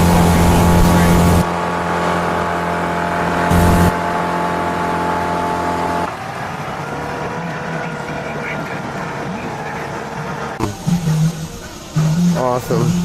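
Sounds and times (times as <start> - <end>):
outboard motor running: 0.0 - 13.0
water noise: 0.0 - 13.0.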